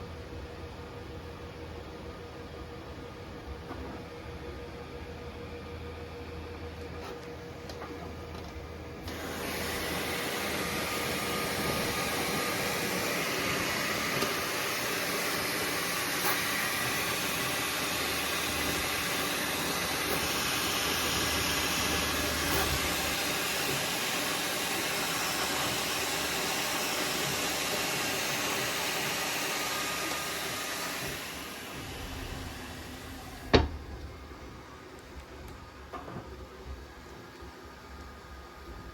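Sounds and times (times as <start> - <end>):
cooling fans hissing: 4.2 - 38.9.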